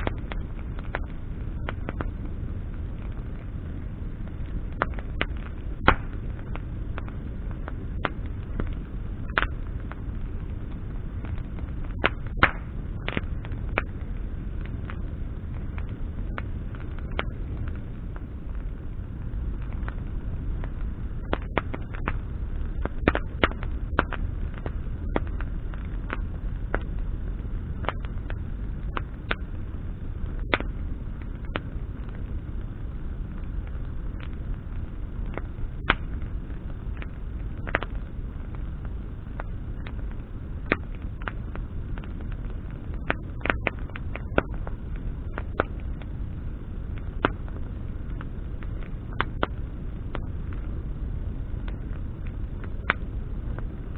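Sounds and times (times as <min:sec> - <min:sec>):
crackles and pops of burning branches: 0:00.0 - 0:53.9
low rumble of flame: 0:00.0 - 0:53.9.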